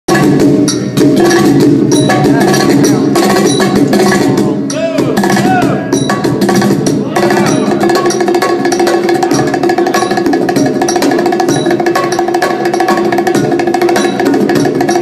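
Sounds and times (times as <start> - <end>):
percussion-led music: 0.1 - 15.0.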